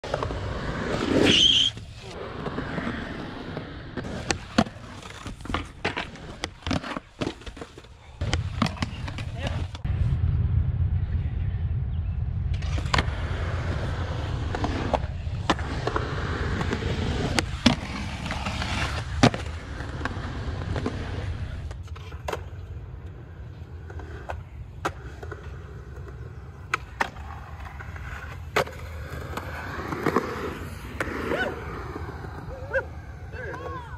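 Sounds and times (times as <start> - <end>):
skateboard wheels rolling on concrete: 0.0 - 33.9.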